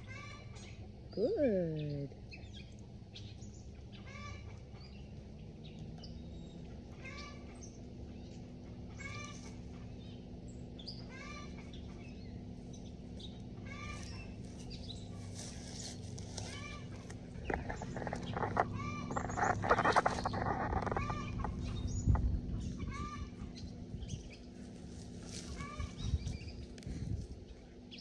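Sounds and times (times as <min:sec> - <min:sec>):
faint low hum: 0:00.0 - 0:28.0.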